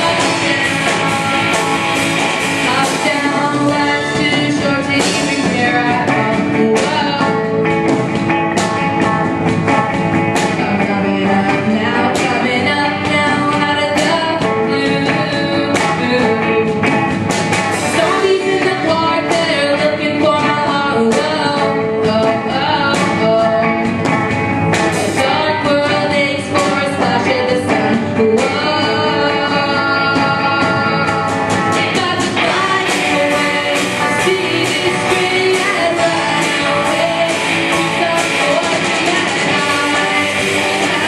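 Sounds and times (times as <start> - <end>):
person singing: 0.0 - 24.0, 24.9 - 41.0
live rock band: 0.0 - 41.0.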